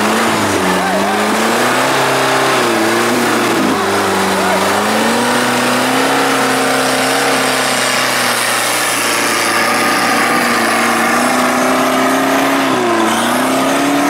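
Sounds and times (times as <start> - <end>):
car engine at high revs whining: 0.0 - 14.0.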